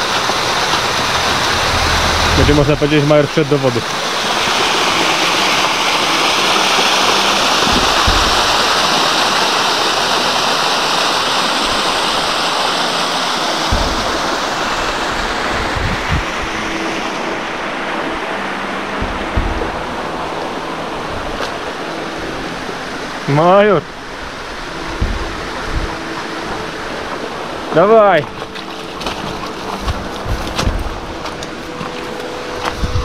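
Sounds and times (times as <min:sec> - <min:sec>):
waterfall splashing over rocks: 0:00.0 - 0:33.0.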